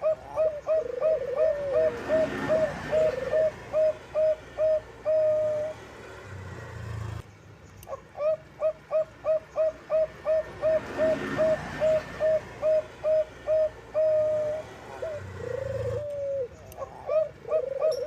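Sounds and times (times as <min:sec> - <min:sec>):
dove cooing short notes: 0:00.0 - 0:05.8, 0:07.9 - 0:18.0.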